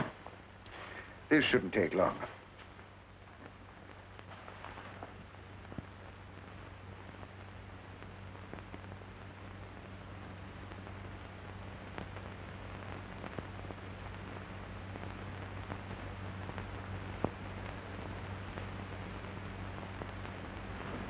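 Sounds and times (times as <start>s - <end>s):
film soundtrack hiss and hum: 0.0s - 21.0s
faint crackle clicks: 2.2s - 21.0s.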